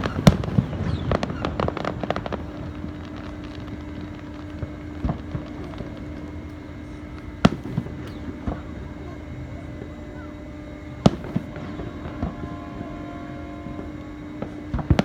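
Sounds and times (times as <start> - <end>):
small firework pops: 0.0 - 8.8, 11.0 - 13.0, 13.6 - 15.0
fireworks bangs: 0.0 - 15.0.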